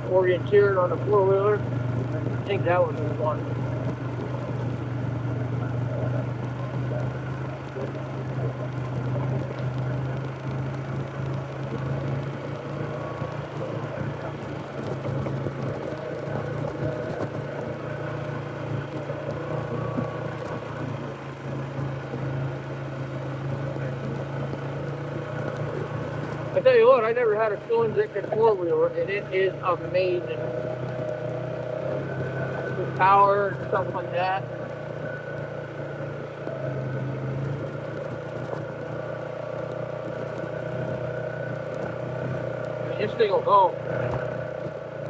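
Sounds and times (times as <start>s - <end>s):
atv engine droning: 0.0s - 45.0s
mechanical and trail noise: 0.0s - 45.0s.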